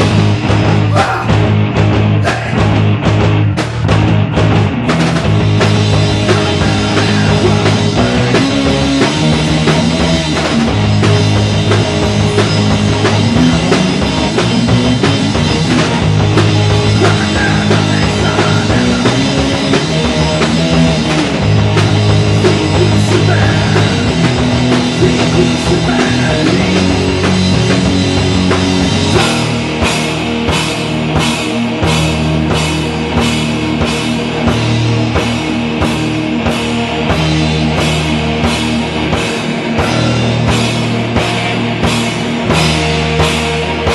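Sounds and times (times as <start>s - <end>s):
drum kit: 0.0s - 43.9s
electric guitars: 0.0s - 43.9s.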